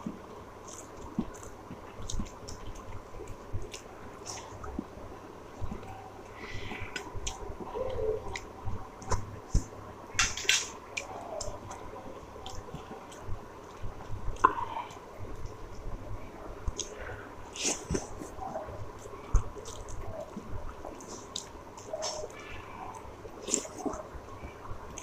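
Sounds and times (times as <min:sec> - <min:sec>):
wet chewing: 0:00.0 - 0:04.9, 0:05.6 - 0:15.6, 0:16.6 - 0:25.0.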